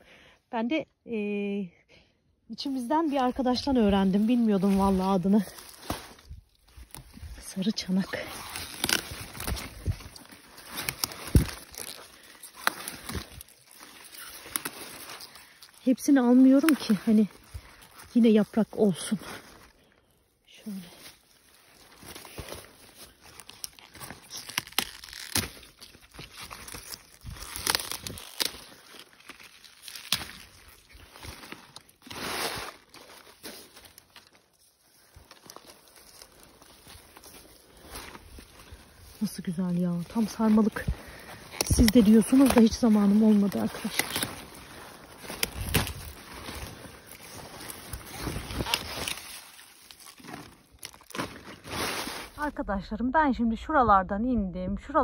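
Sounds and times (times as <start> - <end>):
leaves rustling: 2.6 - 52.6
leaves snapping off stalks: 3.4 - 19.8, 20.7 - 52.4.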